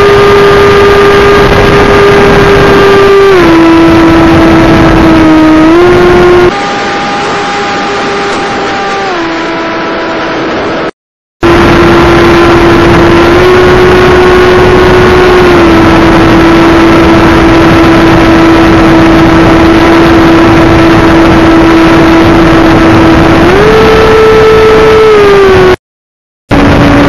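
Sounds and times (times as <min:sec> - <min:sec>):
electric motor propeller drone: 0:00.0 - 0:25.8, 0:26.5 - 0:27.0
rushing wind: 0:00.0 - 0:25.8, 0:26.5 - 0:27.0.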